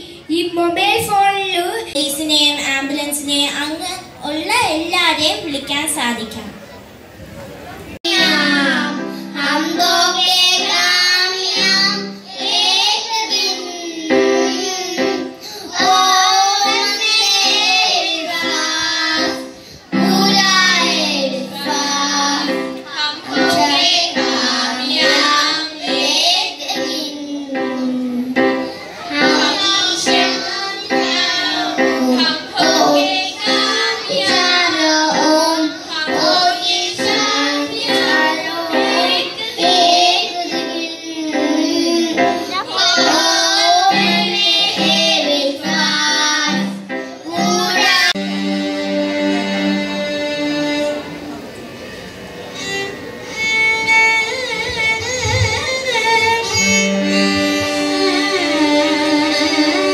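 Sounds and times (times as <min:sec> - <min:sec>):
children's choir singing: 0:08.0 - 0:59.9.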